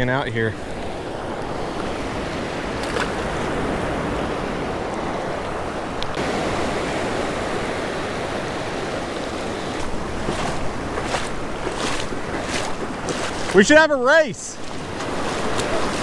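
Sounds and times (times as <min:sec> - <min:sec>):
small surf washing over sand: 0:00.1 - 0:16.0.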